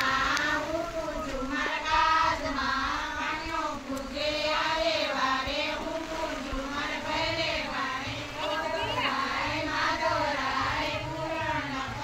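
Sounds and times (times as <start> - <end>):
high voice singing devotional song: 0.0 - 12.0.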